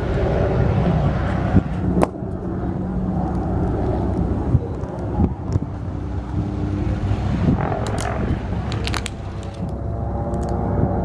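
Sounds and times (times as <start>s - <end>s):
helicopter flying past: 0.0s - 11.0s
wind on microphone: 0.0s - 11.0s.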